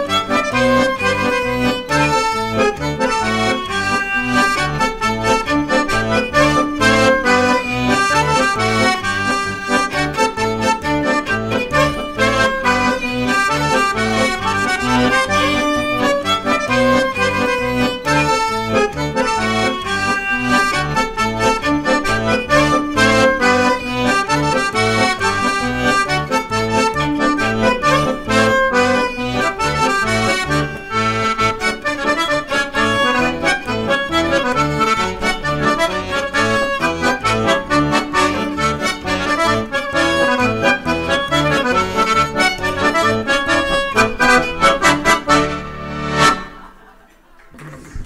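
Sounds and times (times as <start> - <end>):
violin playing: 0.0 - 46.7
accordion playing polka: 0.0 - 46.9.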